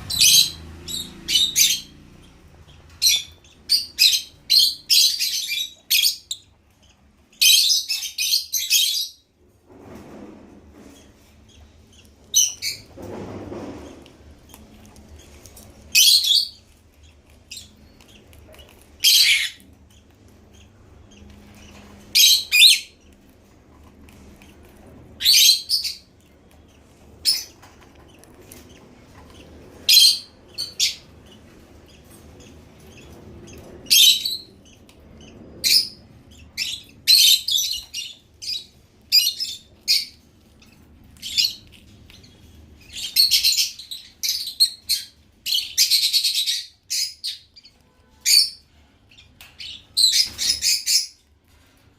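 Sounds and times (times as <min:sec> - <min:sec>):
lovebirds chirping: 0:00.0 - 0:09.5, 0:10.7 - 0:51.9.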